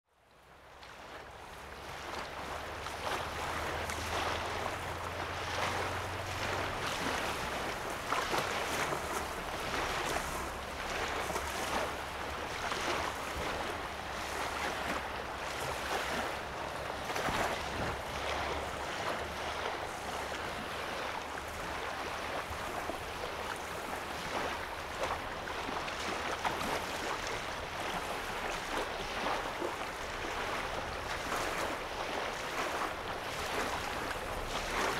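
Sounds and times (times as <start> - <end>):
small waves lapping on shore: 0.1 - 34.9.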